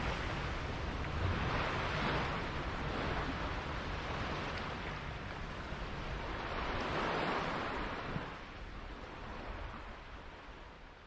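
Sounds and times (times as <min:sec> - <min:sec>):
sea water around a sailboat: 0:00.0 - 0:11.0.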